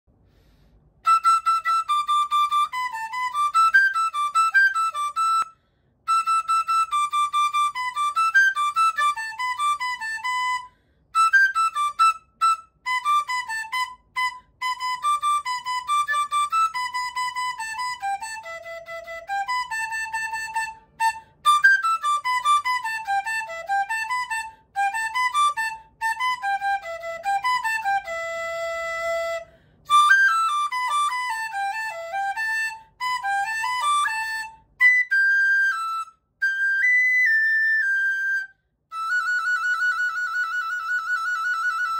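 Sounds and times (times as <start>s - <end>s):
bamboo flute folk melody: 0.4s - 41.9s.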